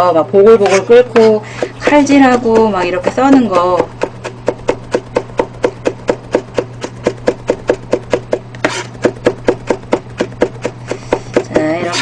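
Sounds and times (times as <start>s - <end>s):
low steady hum: 0.0s - 12.0s
knife chopping on plastic board: 0.6s - 12.0s.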